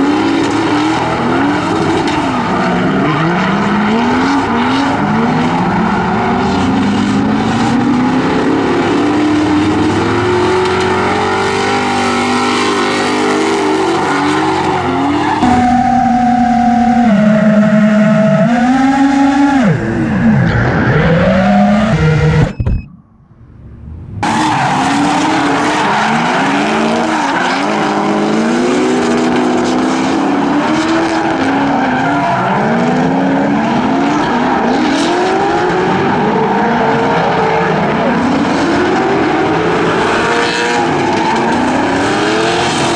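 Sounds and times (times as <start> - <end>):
car engines revving: 0.0 - 22.6, 23.3 - 42.9.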